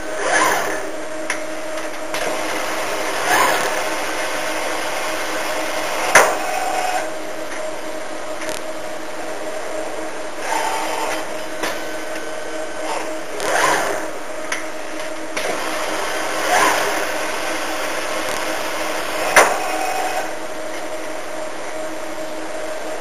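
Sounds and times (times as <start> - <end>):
machine steady hum: 0.0 - 23.0
machine whirs: 0.0 - 23.0.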